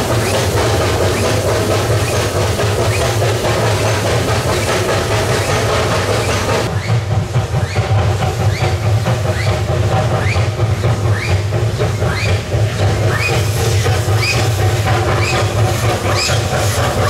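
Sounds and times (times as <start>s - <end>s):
locomotive low drone: 0.0s - 17.0s.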